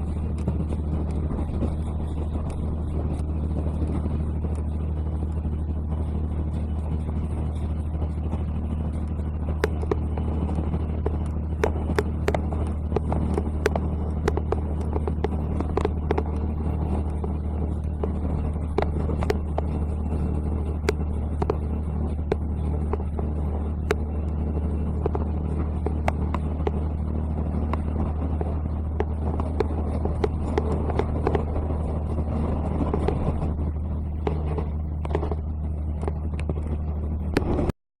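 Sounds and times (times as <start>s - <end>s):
railcar engine drone: 0.0s - 37.7s
wheels clicking and ticking: 0.0s - 37.7s.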